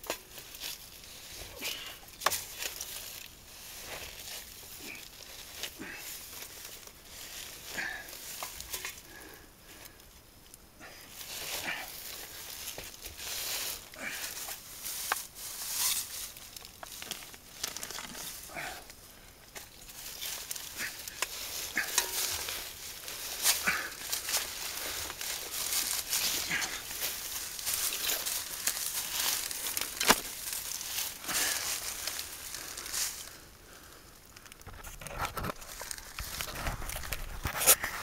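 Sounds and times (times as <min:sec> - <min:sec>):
dry leaves crackling and rustling: 0:00.0 - 0:38.0.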